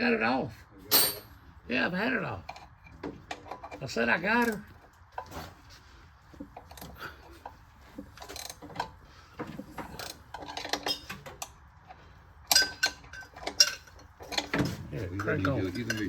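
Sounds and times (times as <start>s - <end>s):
hand tools and metal parts clinking: 0.8s - 1.4s, 2.4s - 16.0s.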